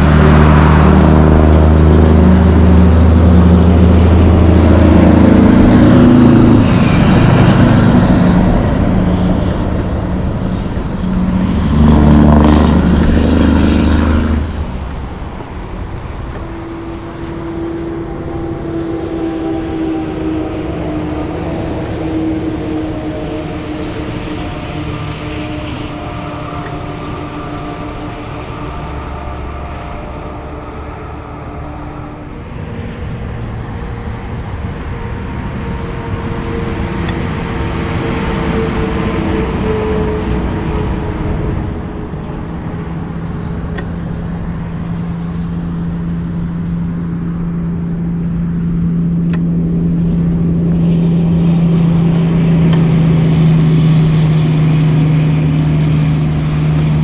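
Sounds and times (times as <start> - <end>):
diesel truck engine droning: 0.0 - 57.0
highway traffic passing: 0.0 - 57.0.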